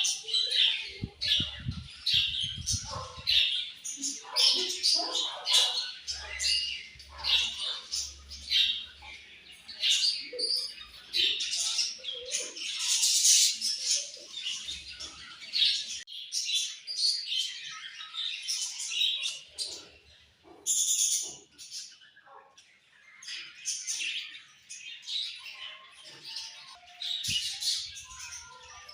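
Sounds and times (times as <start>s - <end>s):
budgerigars chirping and chattering: 0.0s - 28.9s.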